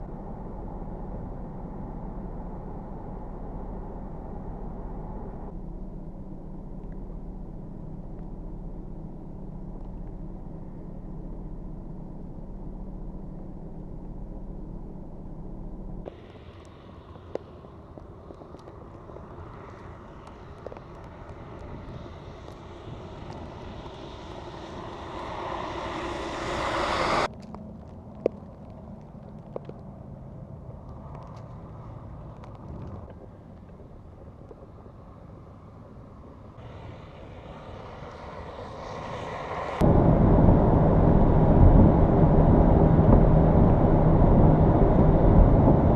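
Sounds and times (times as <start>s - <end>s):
low engine hum: 0.0s - 45.9s
vehicle on snowy road: 0.0s - 45.9s.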